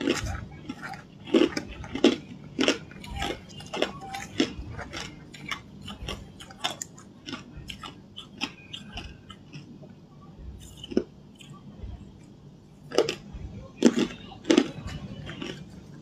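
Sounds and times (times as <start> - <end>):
ice crunching when chewed: 0.0 - 9.7, 10.6 - 11.6, 12.2 - 13.2, 13.8 - 16.0.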